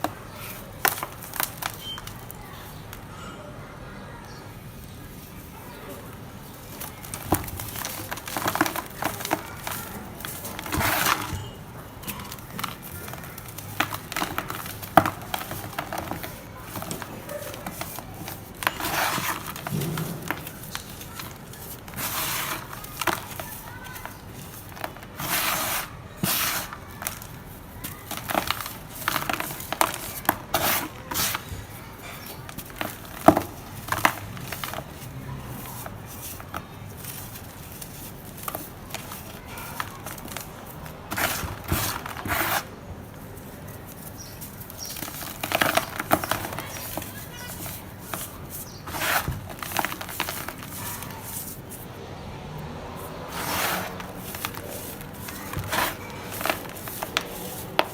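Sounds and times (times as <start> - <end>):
dirt crumbling with gritty crackles: 0.0 - 3.3, 4.3 - 57.9.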